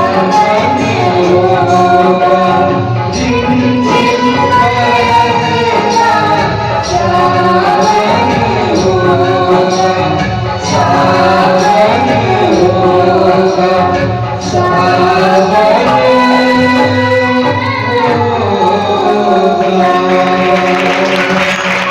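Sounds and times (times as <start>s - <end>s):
instrumental accompaniment: 0.0s - 21.9s
person singing: 0.0s - 21.9s.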